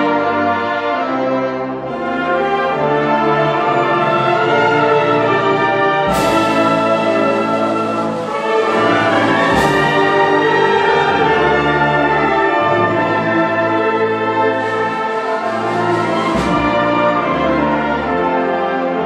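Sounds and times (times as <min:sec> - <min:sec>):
wind orchestra chords: 0:00.0 - 0:19.0.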